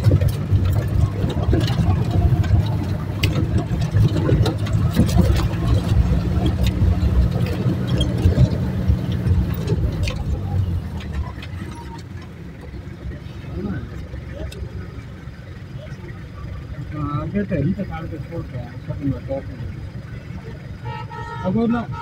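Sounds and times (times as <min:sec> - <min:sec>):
car engine running: 0:00.0 - 0:22.0
knocks and rattles on rough road: 0:00.0 - 0:22.0.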